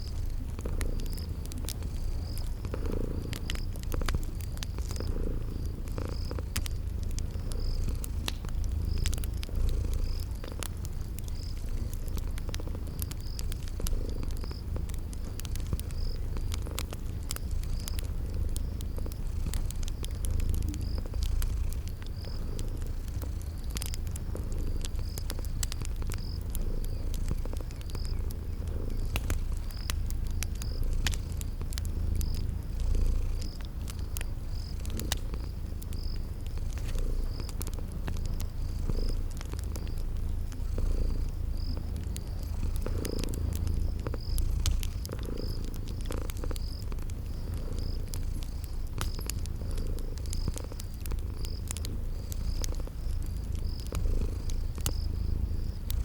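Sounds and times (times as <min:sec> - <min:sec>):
cat purring: 0:00.0 - 0:56.0
cricket chirping: 0:00.0 - 0:56.0
wood fire crackling: 0:00.0 - 0:56.0.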